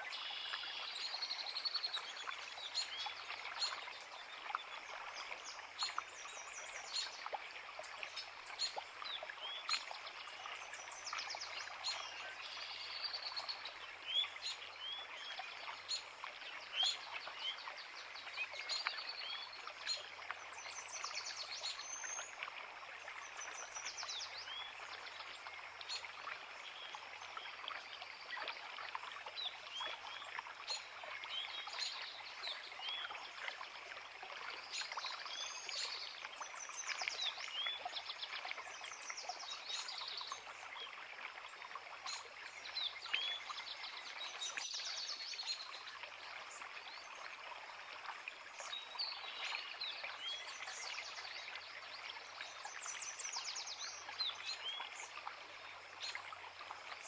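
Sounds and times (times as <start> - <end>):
creek flowing over rocks: 0.0 - 57.0.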